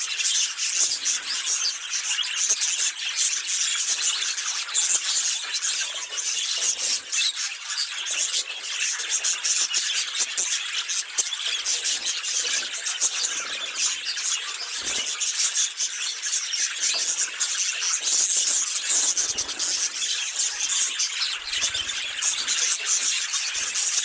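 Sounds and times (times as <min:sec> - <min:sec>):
budgerigars chattering: 0:00.0 - 0:24.0.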